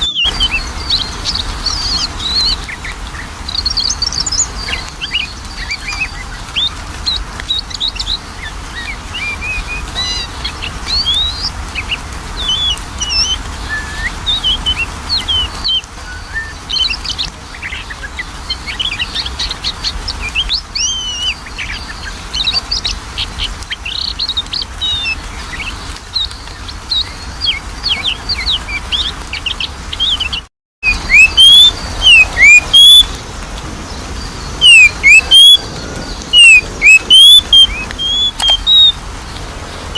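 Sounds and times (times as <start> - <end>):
bird singing chirps and whistles: 0.0 - 33.2, 33.9 - 39.0.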